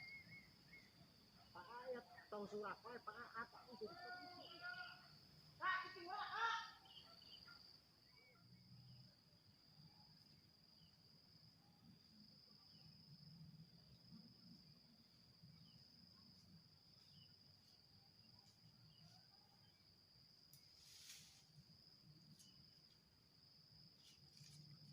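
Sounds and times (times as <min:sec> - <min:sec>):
cricket trilling: 0:00.0 - 0:24.9.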